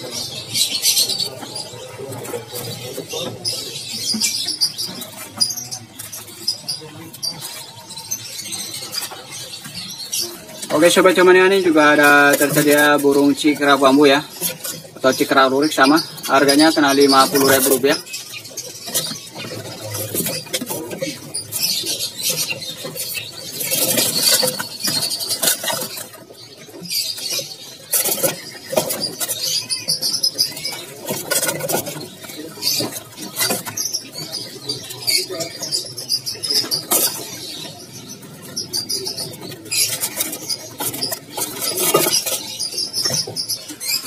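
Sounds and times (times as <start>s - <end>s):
birds rustling in cages: 0.0s - 44.0s
songbirds chirping and twittering: 0.0s - 44.0s.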